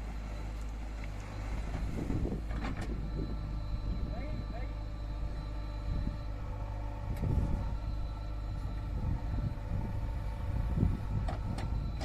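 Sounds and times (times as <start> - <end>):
heavy machinery diesel engine: 0.0 - 12.0.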